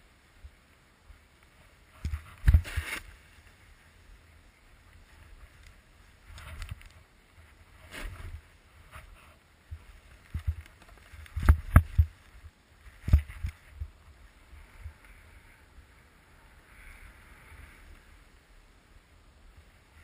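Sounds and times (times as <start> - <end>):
snowboard sliding through snow: 0.2 - 20.0.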